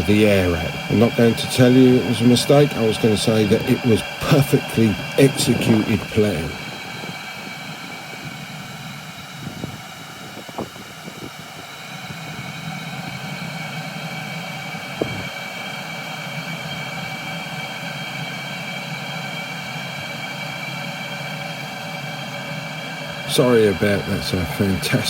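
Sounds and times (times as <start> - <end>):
fan whine: 0.0 - 25.0
heater humming: 0.0 - 25.0.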